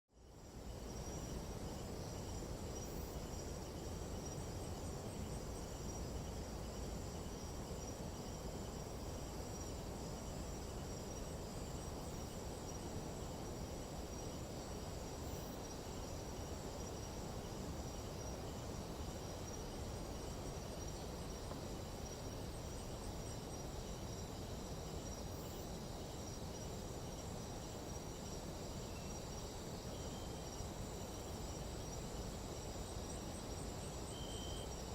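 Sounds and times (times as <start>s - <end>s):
insect trills: 0.2s - 34.9s
low steady rushing noise: 0.2s - 34.9s.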